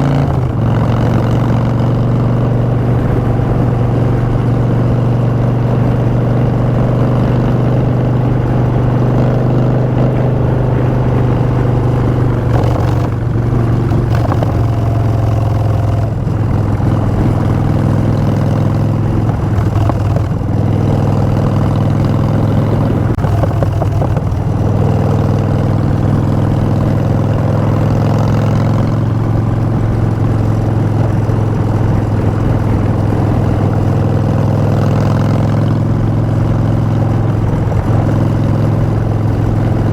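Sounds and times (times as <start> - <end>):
motorcycle engine deep note: 0.0 - 39.9.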